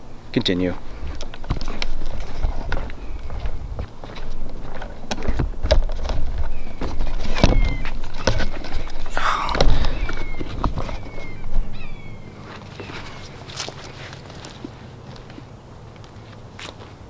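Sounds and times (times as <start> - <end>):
rustle: 0.0 - 17.0.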